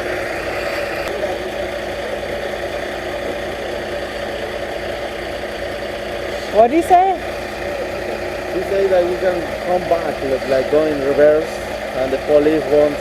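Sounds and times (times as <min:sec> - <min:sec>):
large vehicle engine idling: 0:00.0 - 0:13.0.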